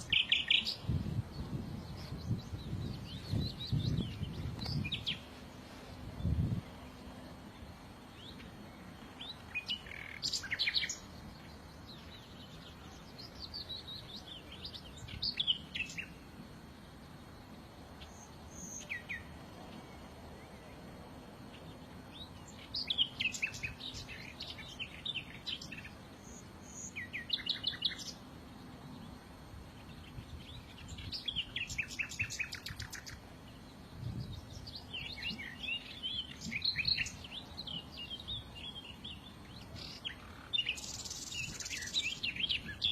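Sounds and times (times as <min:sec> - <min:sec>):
small songbirds singing: 0:00.0 - 0:42.9.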